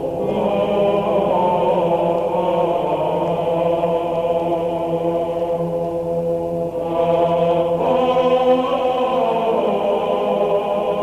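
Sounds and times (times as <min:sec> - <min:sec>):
choir-like chanting music: 0:00.0 - 0:11.0.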